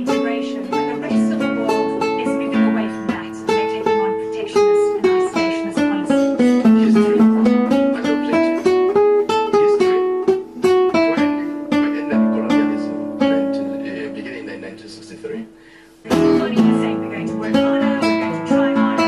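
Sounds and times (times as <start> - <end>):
plucked string melody: 0.0 - 14.8, 15.4 - 19.0.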